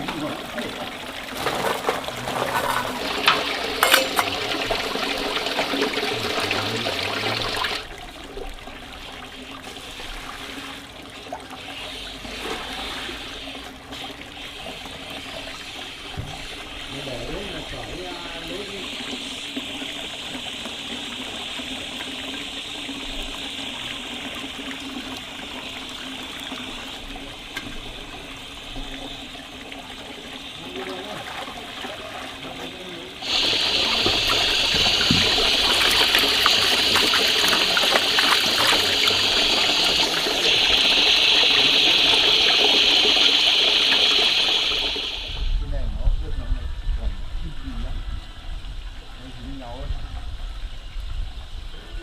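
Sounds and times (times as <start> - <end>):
water running: 0.0 - 45.6.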